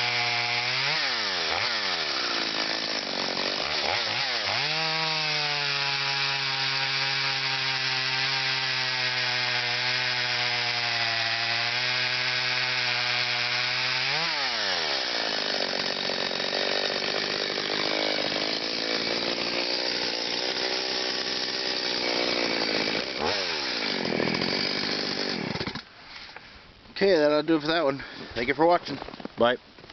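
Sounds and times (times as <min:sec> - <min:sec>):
chainsaw revving: 0:00.0 - 0:25.9.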